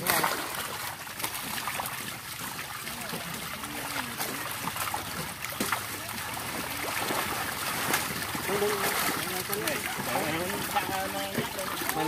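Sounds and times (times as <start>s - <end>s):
water pouring through mesh: 0.0s - 12.0s
water splashing: 0.0s - 12.0s.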